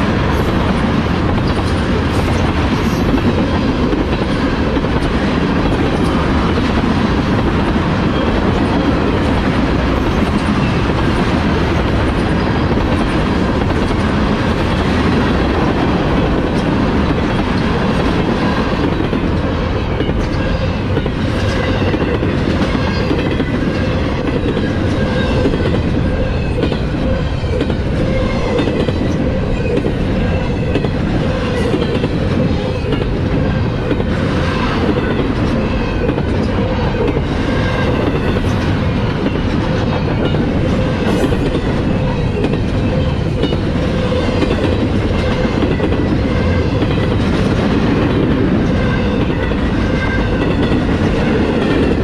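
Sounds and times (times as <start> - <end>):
freight train wheels clacking: 0.0 - 52.0.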